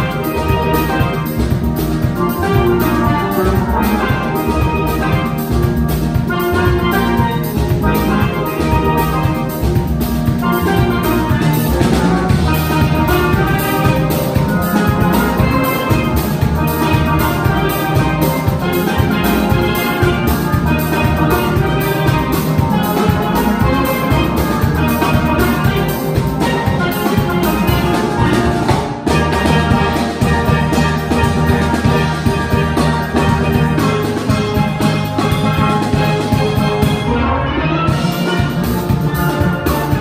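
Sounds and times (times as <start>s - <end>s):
drum kit beat: 0.0s - 40.0s
steelband playing: 0.0s - 40.0s.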